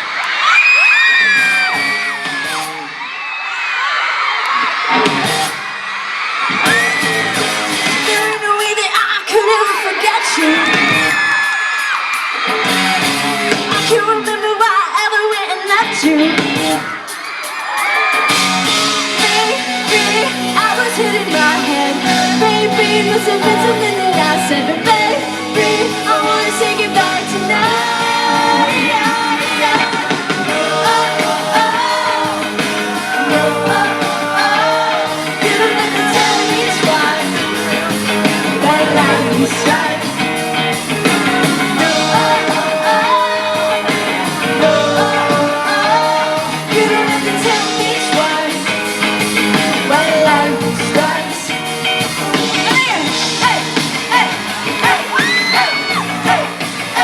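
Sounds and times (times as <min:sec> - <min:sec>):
live pop-rock band with singing: 0:00.0 - 0:57.0.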